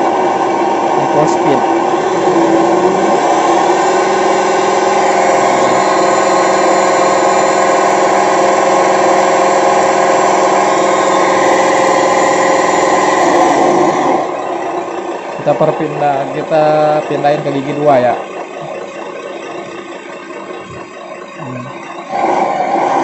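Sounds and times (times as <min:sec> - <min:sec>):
simulated truck engine: 0:00.0 - 0:23.0
toy truck motor whirring: 0:00.0 - 0:23.0.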